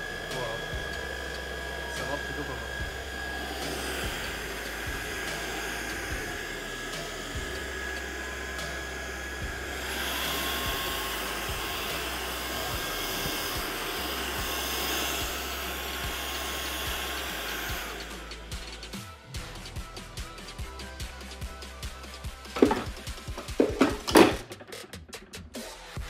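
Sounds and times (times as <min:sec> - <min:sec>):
vacuum cleaner running: 0:00.0 - 0:24.7.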